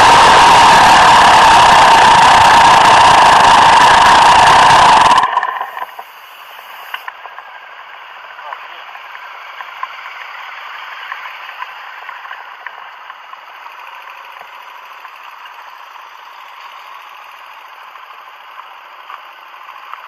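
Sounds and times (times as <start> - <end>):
dirt bikes idling on gravel: 0.0 - 20.0.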